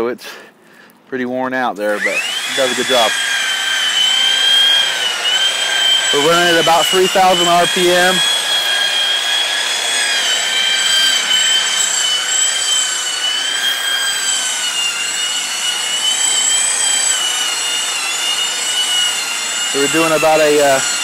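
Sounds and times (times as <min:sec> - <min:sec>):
rotary buffer whining on metal: 0:01.9 - 0:21.0.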